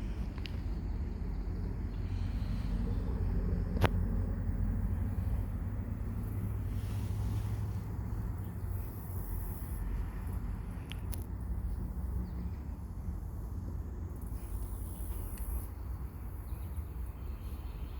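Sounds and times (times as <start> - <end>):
wind rumble on microphone: 0.0 - 17.9.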